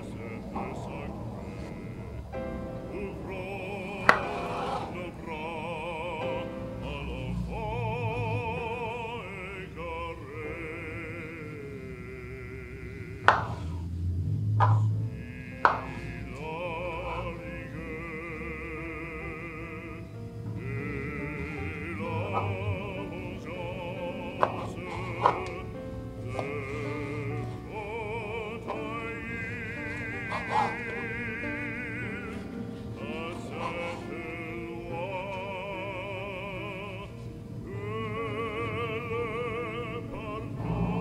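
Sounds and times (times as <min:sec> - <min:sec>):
operatic singing with music: 0:00.0 - 0:13.9, 0:14.6 - 0:41.0.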